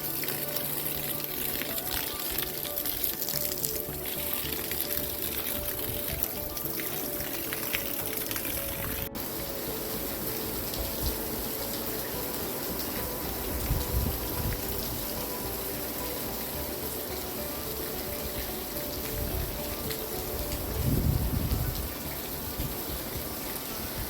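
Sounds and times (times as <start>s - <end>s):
heavy rain on a roof: 0.0s - 24.0s
soft music of held notes: 0.0s - 24.0s.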